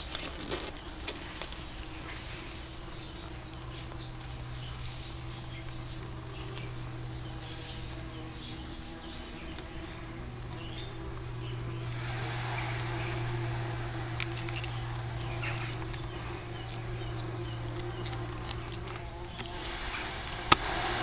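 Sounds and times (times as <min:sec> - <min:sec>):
faint high chirps and ticks: 0:00.0 - 0:20.8
bumblebees buzzing: 0:00.0 - 0:21.0
hiss: 0:00.8 - 0:21.0.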